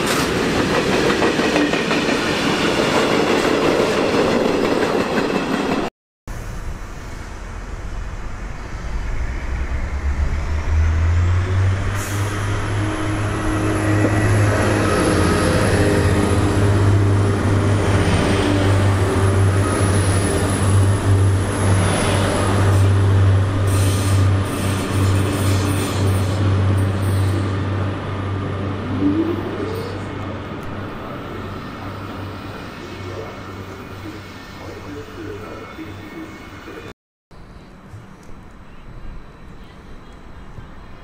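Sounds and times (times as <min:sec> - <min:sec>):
passing train clatter: 0:00.0 - 0:36.9
train low hum: 0:00.0 - 0:41.0.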